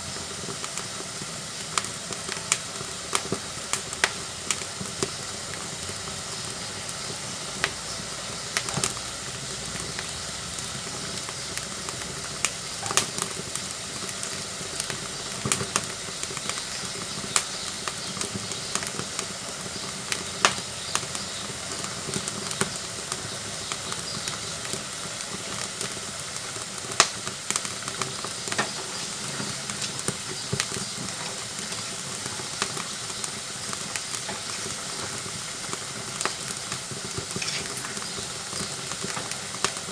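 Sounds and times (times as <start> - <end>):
fire hissing: 0.0 - 39.9
firewood crackling and popping: 0.0 - 39.9.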